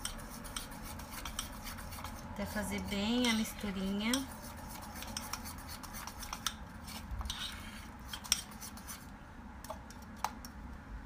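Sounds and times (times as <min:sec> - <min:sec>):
metal spoon stirring batter in bowl: 0:00.0 - 0:09.1.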